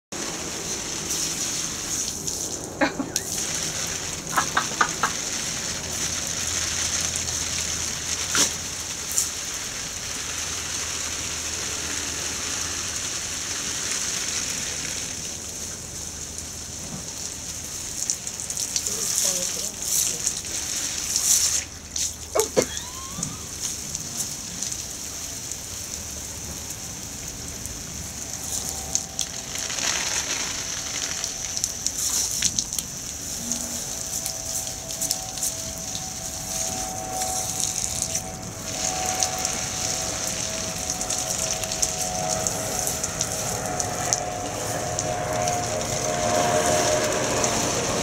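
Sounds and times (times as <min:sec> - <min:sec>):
aircraft drone overhead: 0:00.2 - 0:48.0
hose spray splattering on paving: 0:00.2 - 0:48.0.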